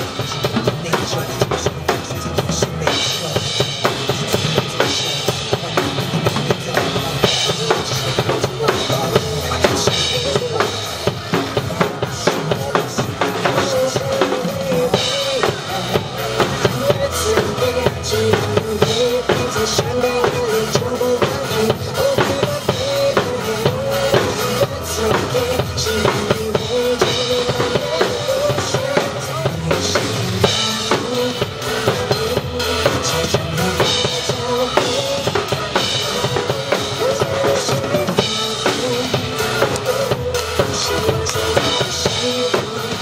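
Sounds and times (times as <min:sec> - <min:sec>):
drum kit playing: 0:00.0 - 0:43.0
recorded pop song with singing: 0:00.0 - 0:43.0.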